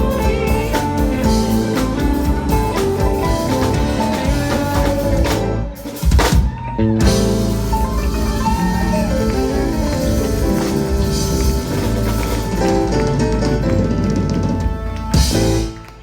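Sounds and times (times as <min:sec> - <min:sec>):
live blues band playing: 0:00.0 - 0:16.0.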